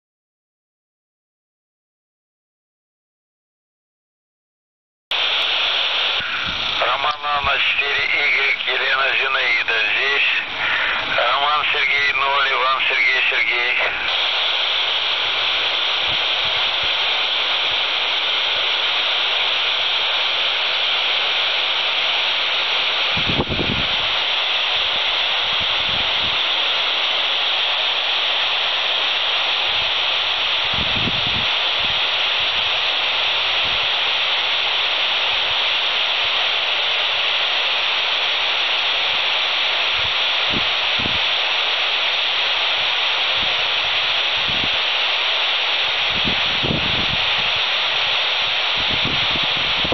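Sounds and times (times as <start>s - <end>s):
radio static hiss: 5.1s - 49.9s.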